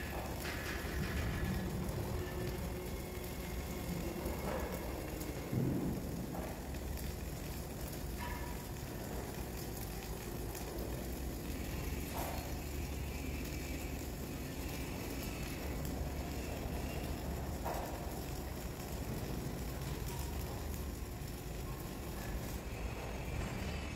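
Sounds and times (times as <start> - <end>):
low constant hum: 0.0 - 23.9
welding arc crackling: 0.0 - 23.9.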